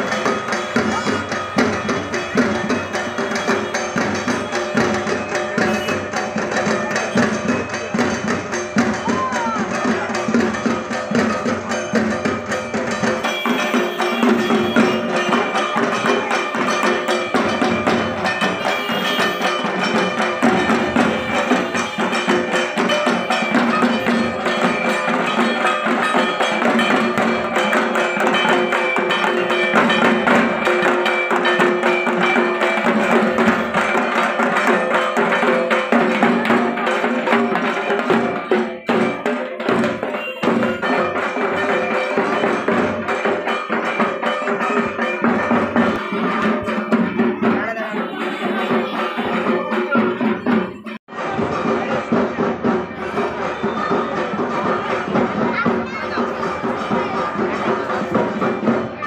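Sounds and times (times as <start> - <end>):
barrel drums beaten with sticks: 0.0 - 59.0.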